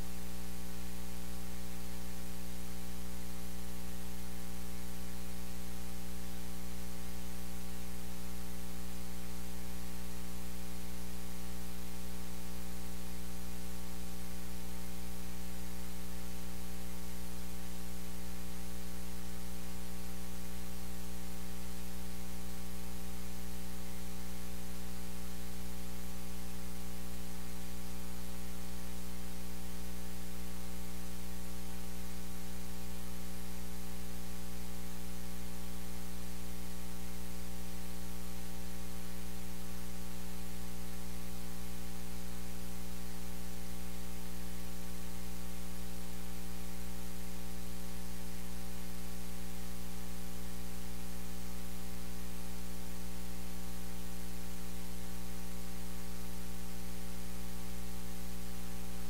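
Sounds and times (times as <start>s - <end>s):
electrical mains hum: 0.0s - 59.0s
static hiss: 0.0s - 59.0s.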